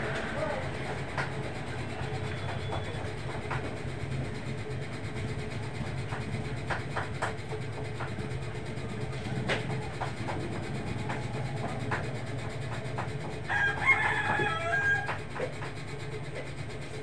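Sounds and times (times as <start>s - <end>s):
low roadside rumble: 0.0s - 17.0s.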